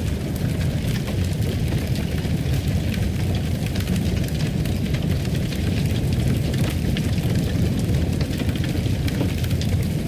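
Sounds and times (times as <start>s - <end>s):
fire crackling: 0.0s - 10.0s
fire rumbling: 0.0s - 10.0s.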